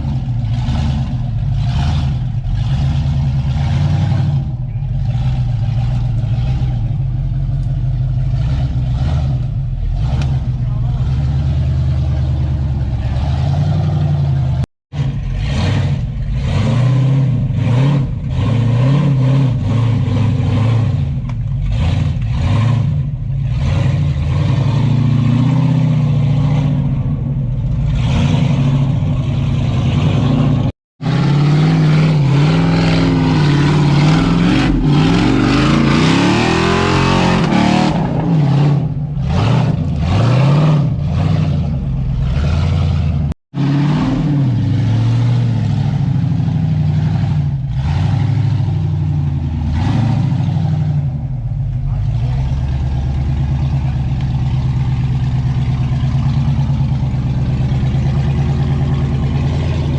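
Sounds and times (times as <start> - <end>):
truck engine revving: 0.0 - 59.9.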